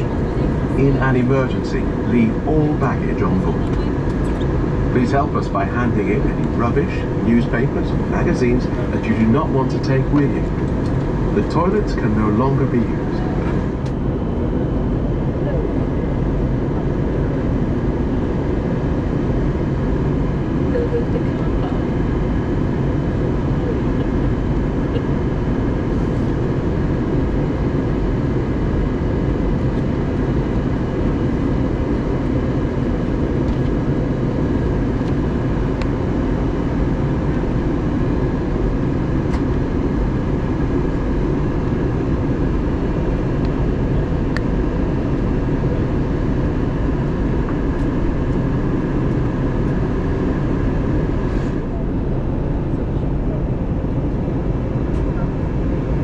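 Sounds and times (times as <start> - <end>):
airliner cabin drone: 0.0 - 56.0
faint steady tones: 0.0 - 56.0.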